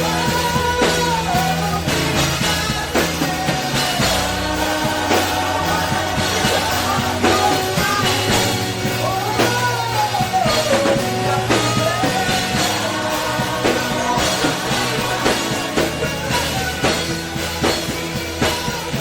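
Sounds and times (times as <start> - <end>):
drum kit keeping time: 0.0 - 19.0
gospel band playing: 0.0 - 19.0
person singing wordlessly: 0.0 - 19.0.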